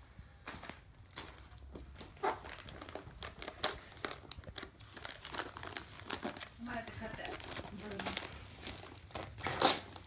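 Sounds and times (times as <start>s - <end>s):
wrapping paper crinkling: 0.6s - 10.0s.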